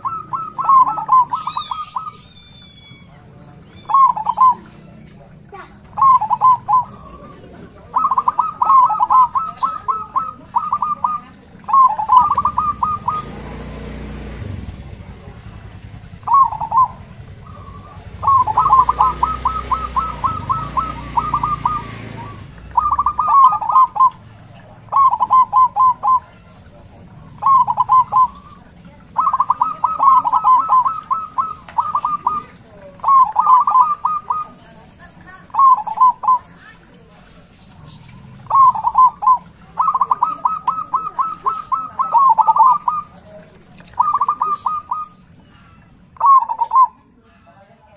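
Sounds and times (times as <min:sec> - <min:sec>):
dove cooing: 0:00.0 - 0:47.8.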